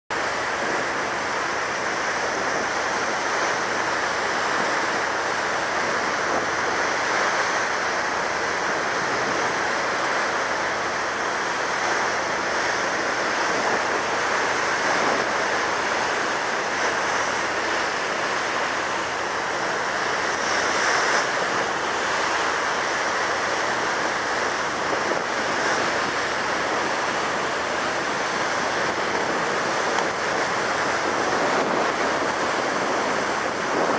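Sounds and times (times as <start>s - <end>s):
rushing water: 0.1s - 33.9s
rushing wind: 0.1s - 33.9s.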